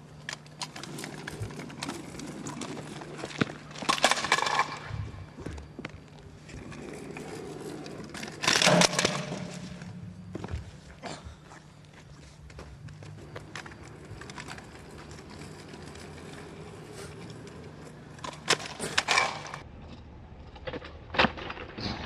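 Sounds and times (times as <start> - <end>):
scooter scraping clatter: 0.0 - 10.9, 11.6 - 22.0
scooter wheels rolling on asphalt: 0.0 - 21.4.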